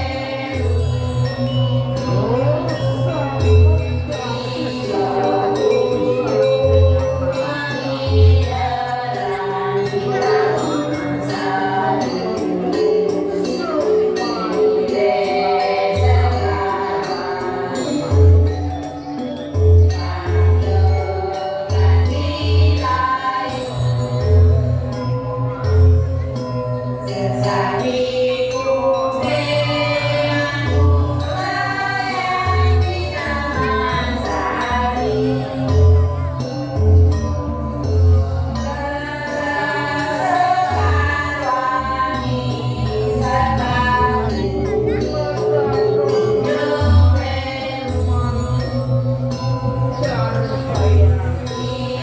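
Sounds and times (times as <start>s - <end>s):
group of voices singing: 0.0s - 26.2s, 27.0s - 52.0s
gamelan accompaniment: 0.0s - 52.0s.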